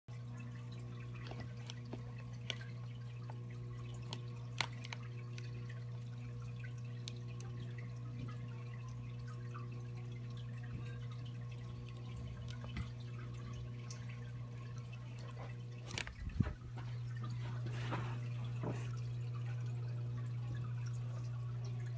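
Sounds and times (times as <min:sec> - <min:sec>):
aquarium pump humming: 0:00.1 - 0:21.9
water drips and clicks: 0:00.1 - 0:21.9.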